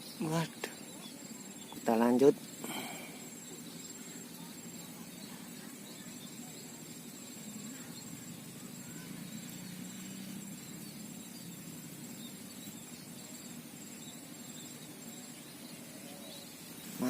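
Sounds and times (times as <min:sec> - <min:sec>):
insect trilling: 0:00.0 - 0:17.0.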